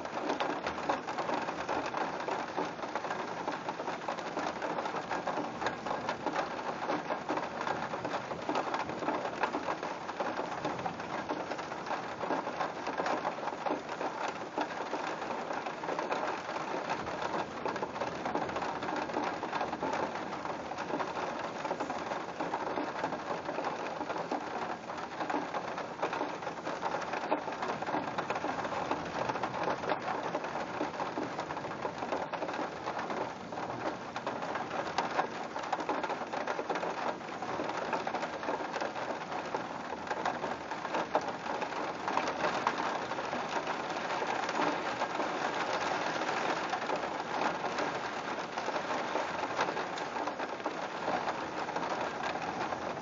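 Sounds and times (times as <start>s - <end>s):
steady heavy rain: 0.0s - 53.0s.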